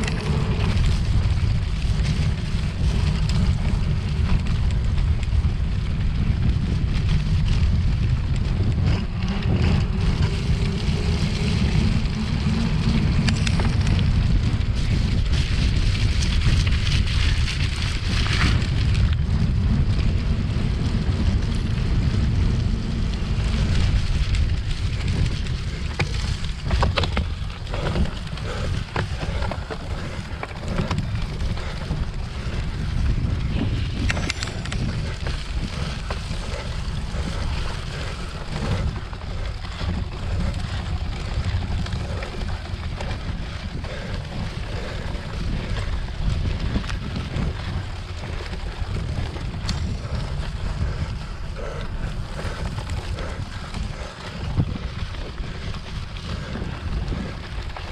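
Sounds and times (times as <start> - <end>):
bike knocks and rattles: 0.0 - 57.9
wind rushing over microphone: 0.0 - 57.9.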